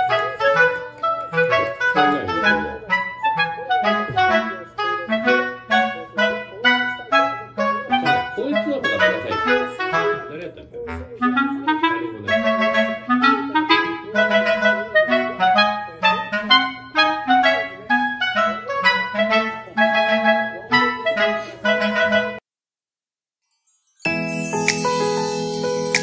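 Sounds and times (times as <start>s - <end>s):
bouncy background music: 0.0s - 22.4s, 24.1s - 26.0s.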